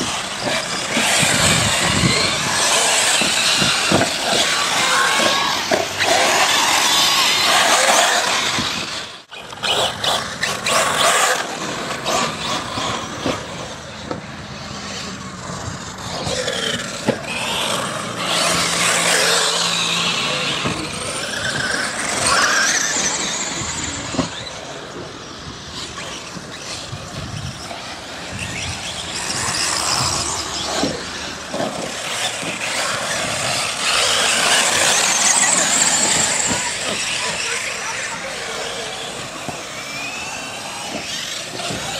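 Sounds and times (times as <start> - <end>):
rc car motors whining: 0.0 - 41.9.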